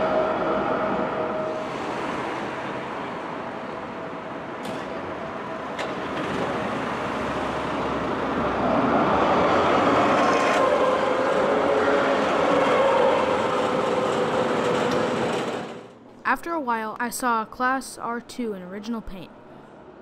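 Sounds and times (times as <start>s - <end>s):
tram passing with whine: 0.0s - 16.1s.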